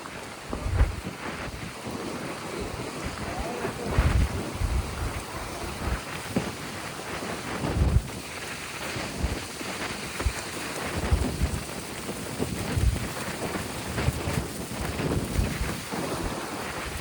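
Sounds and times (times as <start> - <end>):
surf: 0.0 - 17.0
wind buffeting microphone: 0.0 - 17.0.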